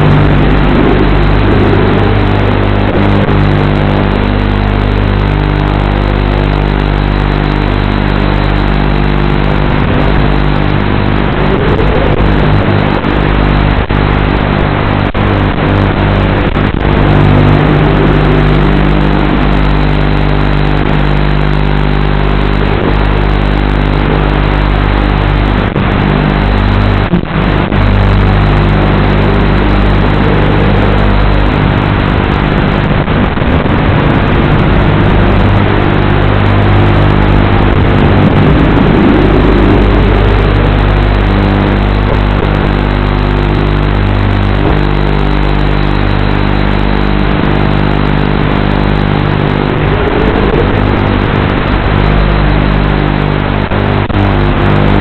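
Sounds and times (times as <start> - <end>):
brief rising and falling whines: 0.0 - 55.0
quadcopter buzzing hum: 0.0 - 55.0.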